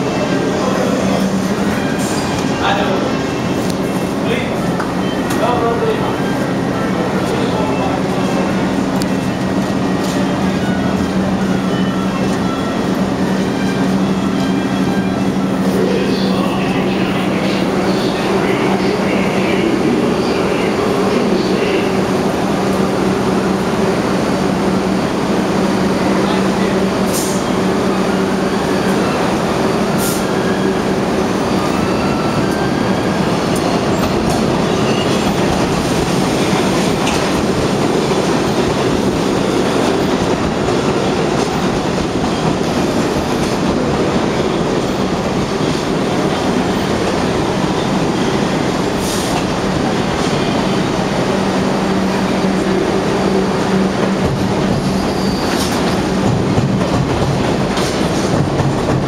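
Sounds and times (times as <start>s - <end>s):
subway train wheels rumbling: 0.0s - 59.0s.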